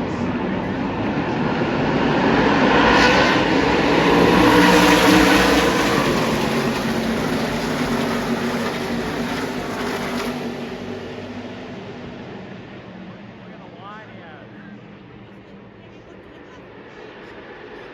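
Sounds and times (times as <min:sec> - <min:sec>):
race truck engines passing by: 0:00.0 - 0:17.9.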